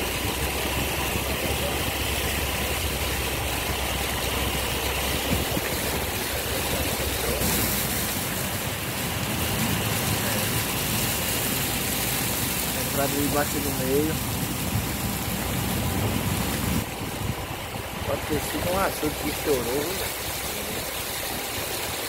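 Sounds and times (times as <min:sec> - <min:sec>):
car engine hum: 0:00.0 - 0:22.0
rushing water: 0:00.0 - 0:22.0.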